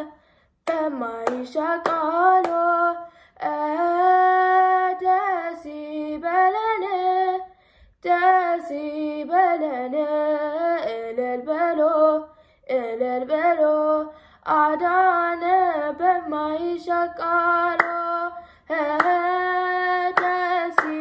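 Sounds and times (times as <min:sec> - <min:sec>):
girl singing a hymn: 0:00.0 - 0:21.0.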